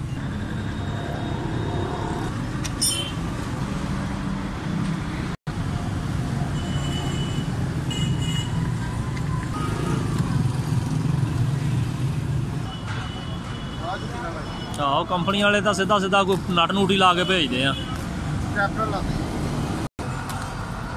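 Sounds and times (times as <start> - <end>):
street traffic rumble: 0.0 - 20.9.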